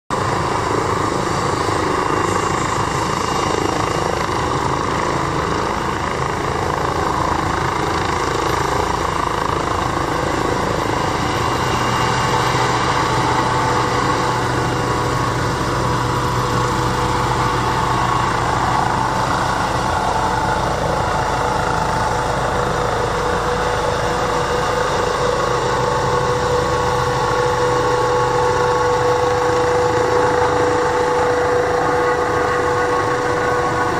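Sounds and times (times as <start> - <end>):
helicopter turbine and rotor: 0.1 - 33.9.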